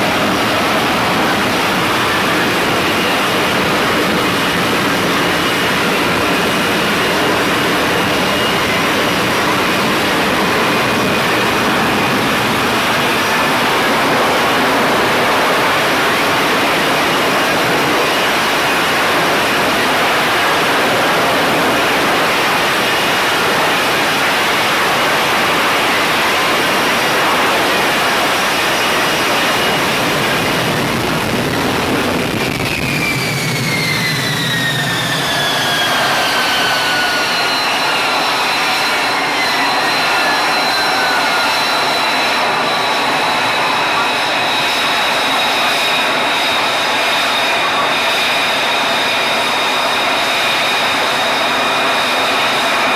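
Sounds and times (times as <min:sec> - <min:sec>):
jet engine roaring: 0:00.0 - 0:52.9
whines falling in pitch: 0:00.1 - 0:48.6.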